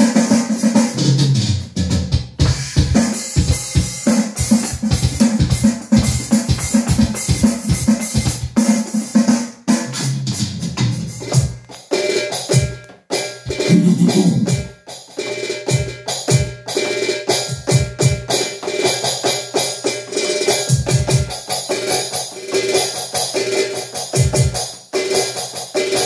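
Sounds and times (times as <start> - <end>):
electronic drum kit played hard: 0.0 - 26.0.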